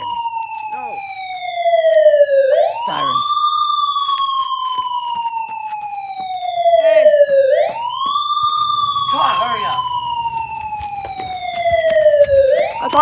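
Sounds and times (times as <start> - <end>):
police siren wailing: 0.0 - 13.0.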